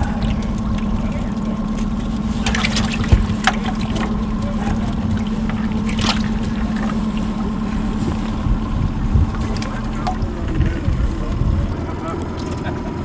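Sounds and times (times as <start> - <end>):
boat motor idling: 0.0 - 13.0.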